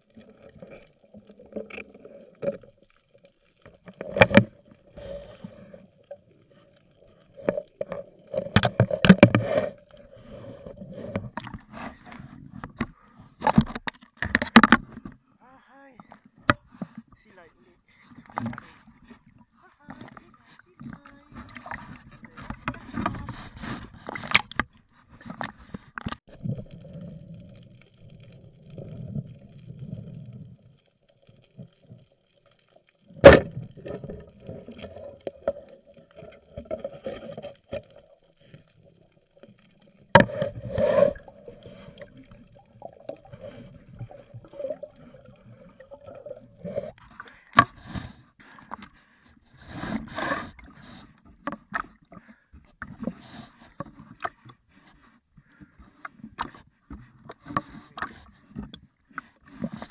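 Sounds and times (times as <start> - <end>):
water sloshing and bubbling: 0.0 - 59.9.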